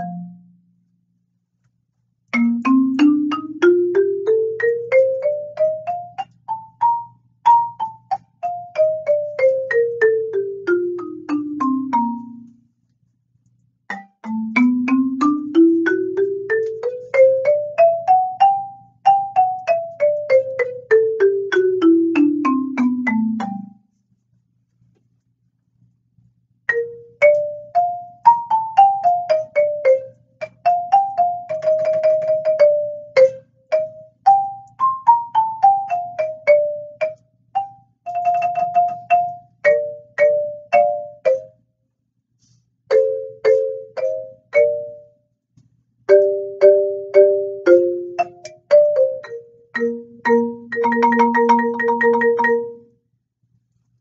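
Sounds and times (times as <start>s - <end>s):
marimba played with mallets: 0.0s - 0.6s, 2.3s - 12.5s, 13.9s - 23.8s, 26.7s - 41.5s, 42.9s - 45.1s, 46.1s - 52.8s.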